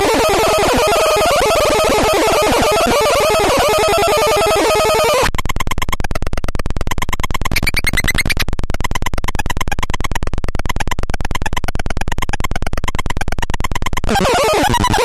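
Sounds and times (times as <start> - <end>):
electronic noise box stuttering pulses: 0.0 - 15.0.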